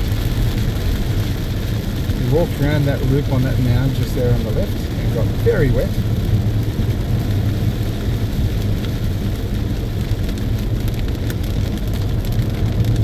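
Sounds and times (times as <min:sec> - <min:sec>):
car engine and wet tyres: 0:00.0 - 0:13.0
rain on car: 0:00.0 - 0:13.0.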